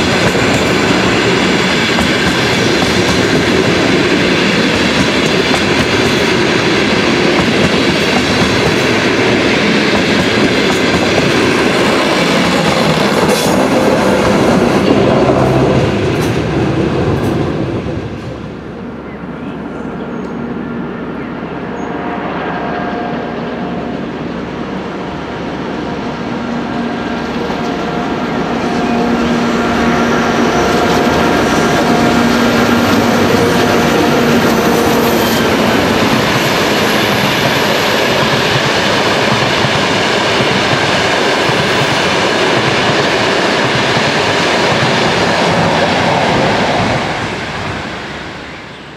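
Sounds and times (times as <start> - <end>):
diesel locomotive engine drone: 0.0 - 48.9
train wheels rumbling on rails: 0.0 - 48.9.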